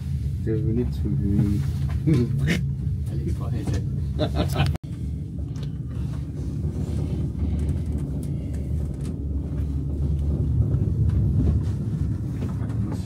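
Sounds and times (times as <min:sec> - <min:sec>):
cable car low rumble: 0:00.0 - 0:13.0.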